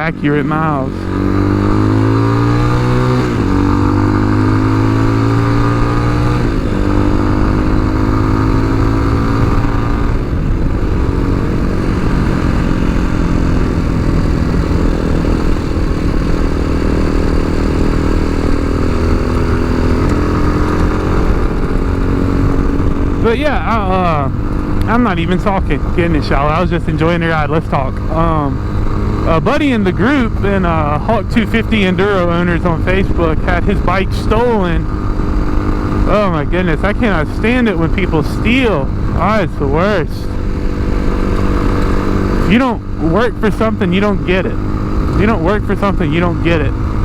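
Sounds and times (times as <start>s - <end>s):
motorcycle engine changing gears: 0.0s - 47.0s.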